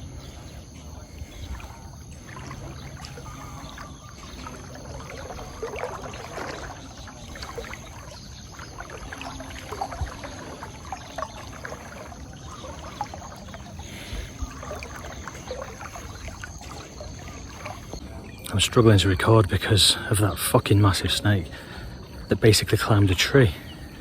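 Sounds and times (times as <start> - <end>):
person wading through water: 0.0 - 24.0.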